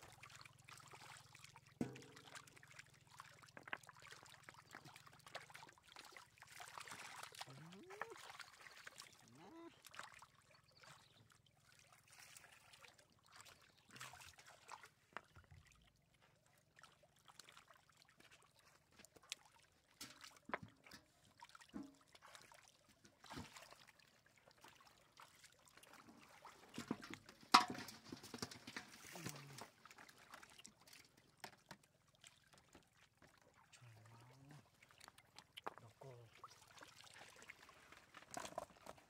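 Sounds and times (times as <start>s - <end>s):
stream water trickling: 0.0s - 39.0s.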